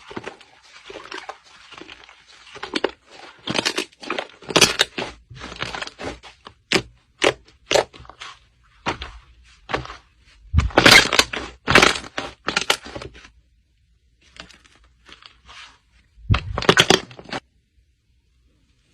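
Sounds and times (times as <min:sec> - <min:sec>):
slime squishing by hand: 0:00.0 - 0:13.5, 0:14.1 - 0:17.5.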